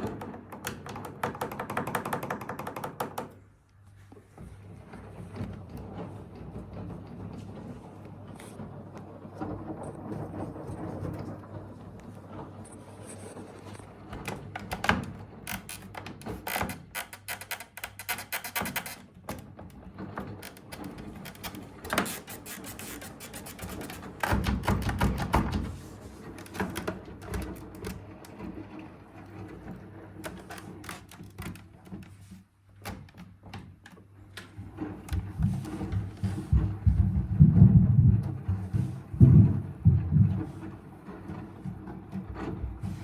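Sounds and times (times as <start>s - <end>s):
washing machine knocking and rattling: 0.0s - 3.5s, 4.4s - 13.0s, 13.8s - 43.0s.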